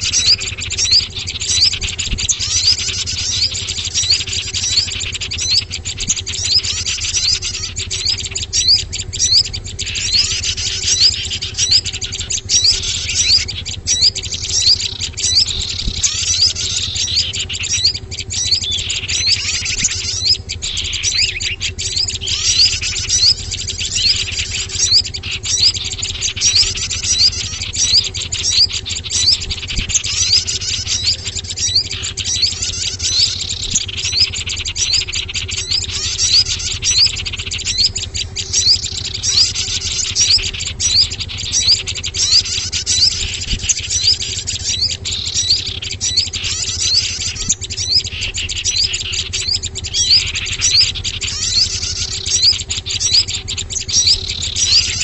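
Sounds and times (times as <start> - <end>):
songbirds chirping: 0.0 - 55.0
steady low hum: 0.0 - 55.0.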